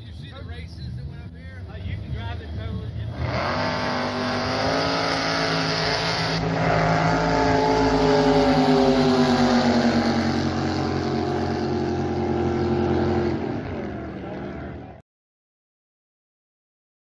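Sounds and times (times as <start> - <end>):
jet boat engines droning: 0.0 - 15.0.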